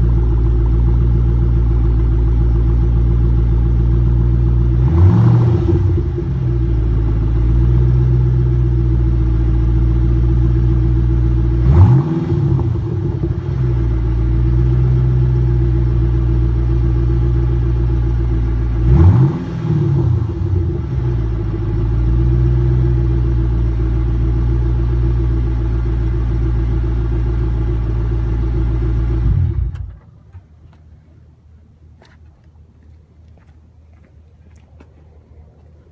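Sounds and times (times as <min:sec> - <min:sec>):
car engine idling and revving: 0:00.0 - 0:30.8.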